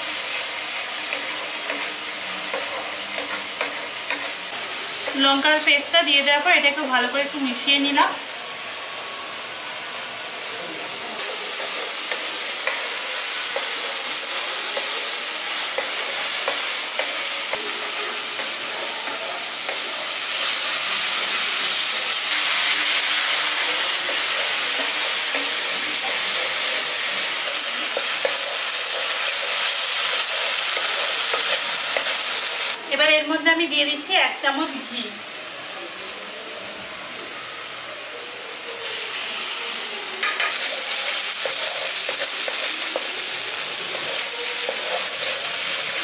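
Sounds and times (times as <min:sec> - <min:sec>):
paste sizzling in oil: 0:00.0 - 0:32.8, 0:38.2 - 0:46.0.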